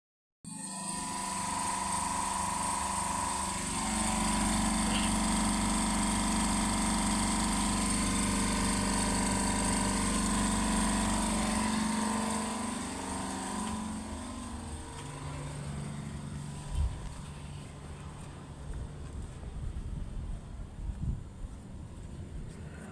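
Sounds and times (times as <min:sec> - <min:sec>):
air compressor motor hum: 0:00.5 - 0:21.5.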